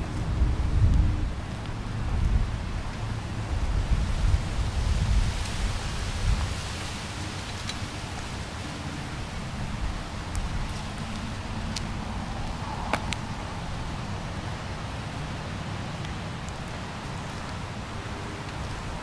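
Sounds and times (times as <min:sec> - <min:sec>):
wind and waves rushing: 0:00.0 - 0:19.0
wind rumble on microphone: 0:00.0 - 0:19.0.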